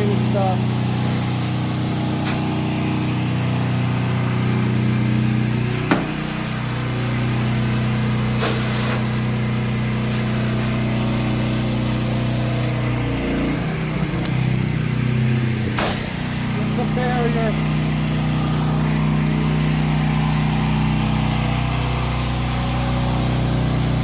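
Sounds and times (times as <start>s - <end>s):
pressure washer engine running: 0.0s - 24.0s.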